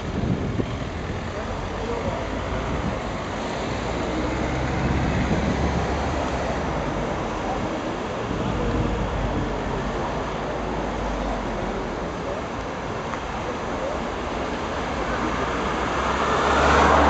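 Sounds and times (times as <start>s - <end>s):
cars rolling past: 0.0s - 17.0s
car passing close: 1.3s - 12.4s, 13.8s - 17.0s.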